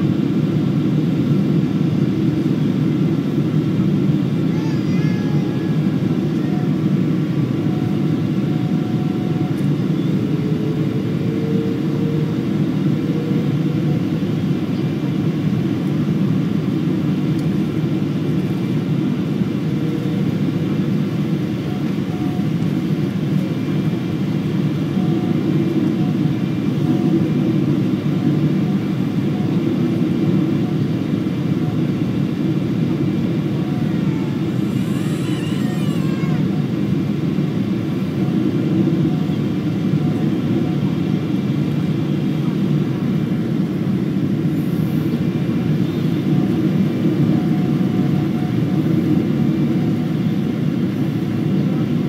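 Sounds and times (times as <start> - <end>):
airliner engine and airflow drone: 0.0 - 52.0.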